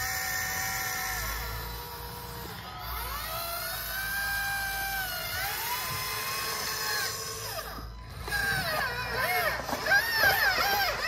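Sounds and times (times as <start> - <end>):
model excavator motors whining: 0.0 - 11.0.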